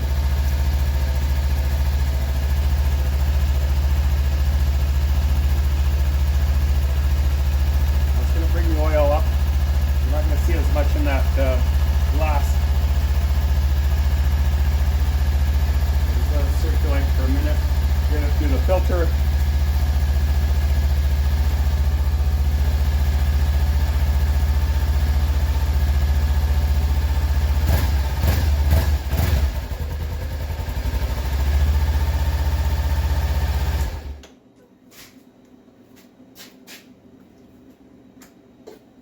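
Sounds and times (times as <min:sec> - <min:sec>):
motorcycle engine idling: 0:00.0 - 0:34.2.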